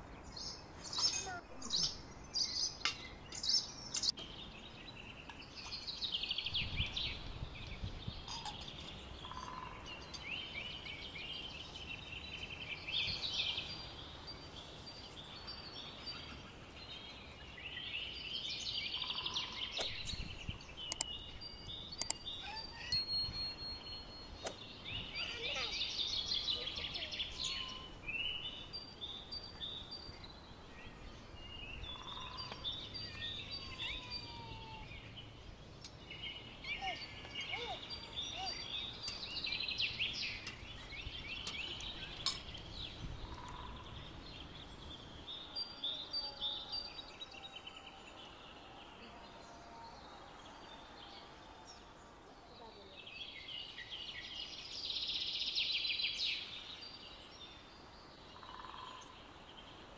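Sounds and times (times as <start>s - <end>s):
faint outdoor background noise: 0.0s - 59.9s
songbirds chirping and singing: 0.0s - 59.9s.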